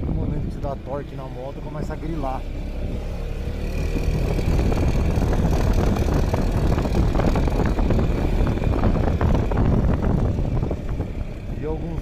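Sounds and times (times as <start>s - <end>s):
scooter engine revving: 1.8s - 11.7s.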